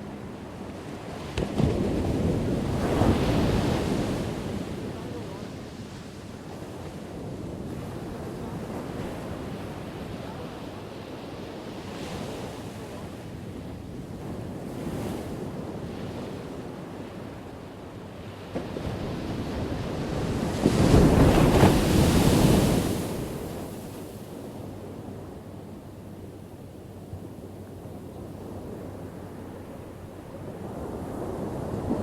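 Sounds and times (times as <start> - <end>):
ocean waves breaking on shore: 0.0 - 32.0.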